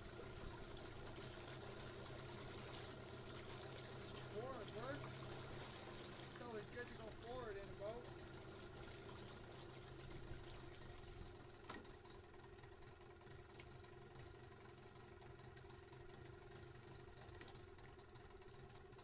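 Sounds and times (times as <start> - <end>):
outboard motor idling: 0.0 - 19.0.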